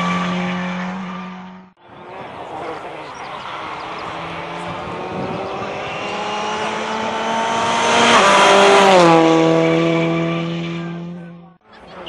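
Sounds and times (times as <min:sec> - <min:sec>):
rally car passing at speed: 0:00.0 - 0:11.6.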